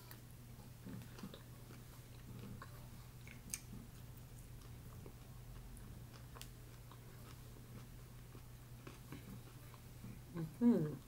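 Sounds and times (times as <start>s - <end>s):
person chewing food: 0.0s - 10.5s
low steady hum: 0.0s - 11.0s.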